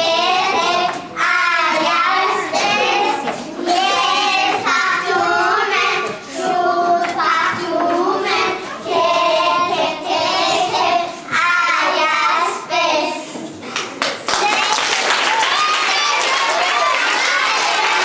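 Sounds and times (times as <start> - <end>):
young children singing: 0.0 - 13.7, 14.3 - 18.0.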